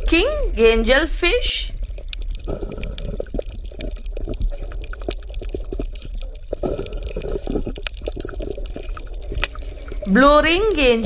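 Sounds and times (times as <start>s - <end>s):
water bubbling and gurgling: 0.0s - 11.0s.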